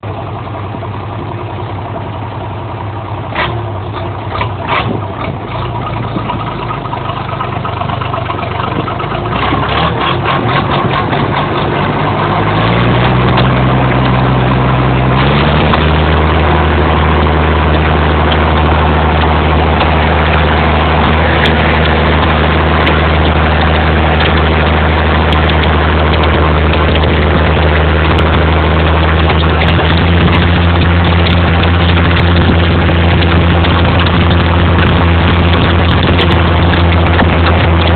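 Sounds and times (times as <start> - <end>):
engine exhaust running: 0.0 - 37.9.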